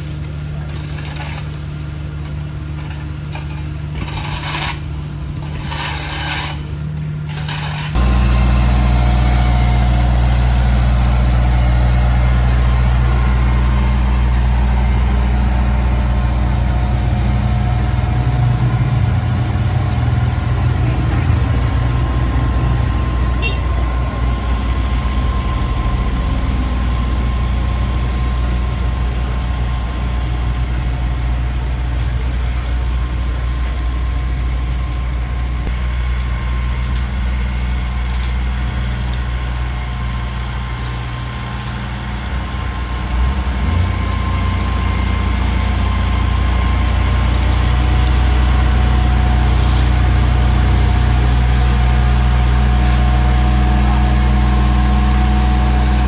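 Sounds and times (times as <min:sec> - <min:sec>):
diesel paving machinery drone: 0:00.0 - 0:56.0.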